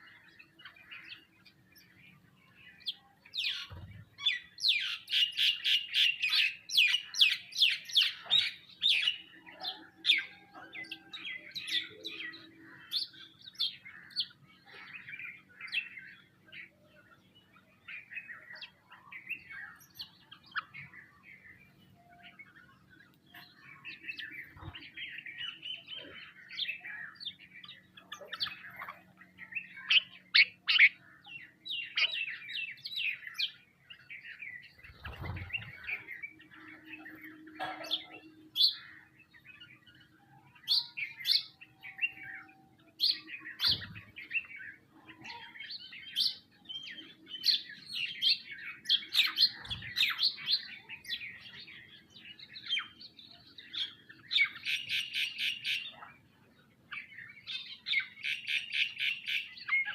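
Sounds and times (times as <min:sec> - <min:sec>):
flock of small birds chirping: 0:00.0 - 0:59.9.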